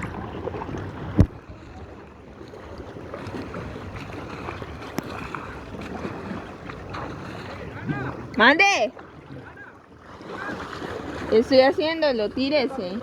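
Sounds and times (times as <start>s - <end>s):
sea noise: 0.0s - 13.0s
wind: 0.0s - 13.0s.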